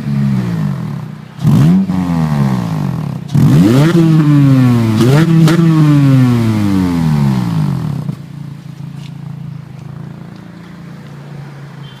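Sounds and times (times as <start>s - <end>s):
car engine revving and idling: 0.0s - 11.8s.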